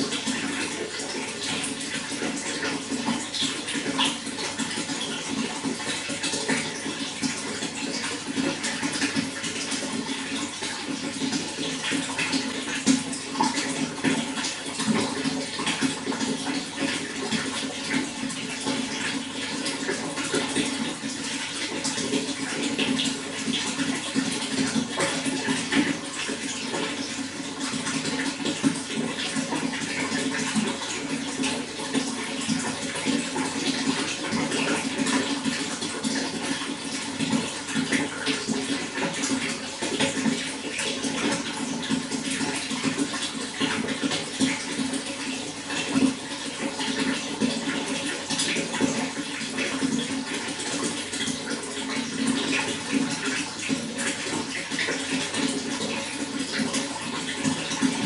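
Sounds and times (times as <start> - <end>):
running water with splashes: 0.0 - 58.0.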